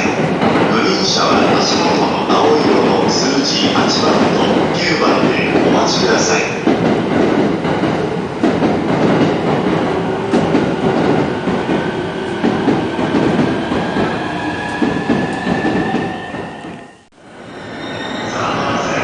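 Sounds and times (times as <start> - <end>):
train rail noise: 0.0 - 19.0.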